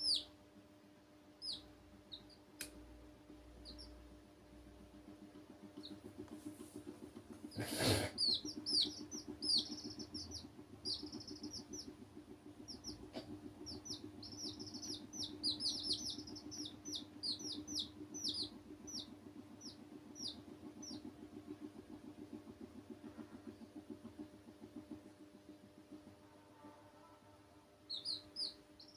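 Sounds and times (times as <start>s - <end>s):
baby chicks peeping: 0.0s - 0.4s, 1.4s - 2.7s, 3.4s - 4.1s, 5.1s - 26.0s, 27.8s - 28.9s
steady low hum: 0.0s - 28.9s.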